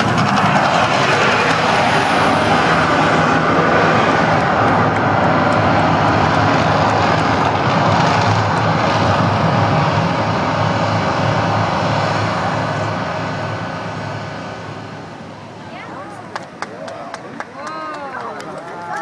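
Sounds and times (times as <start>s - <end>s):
loud roar and rumble: 0.0s - 15.6s.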